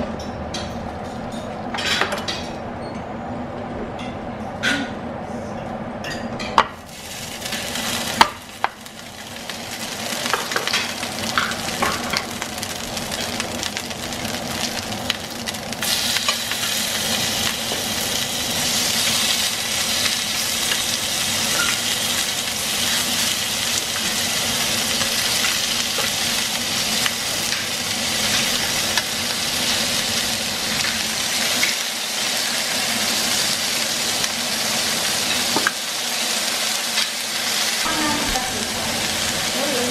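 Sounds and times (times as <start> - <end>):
meat sizzling on hot plates: 6.6 - 39.9.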